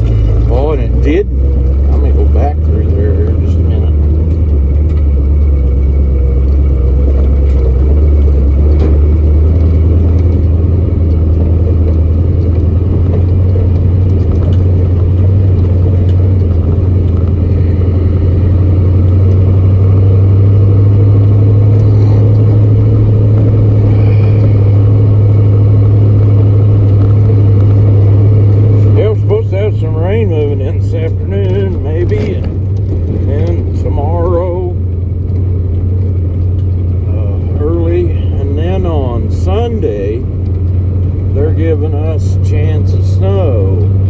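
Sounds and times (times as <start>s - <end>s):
pickup truck engine drone: 0.0s - 44.0s.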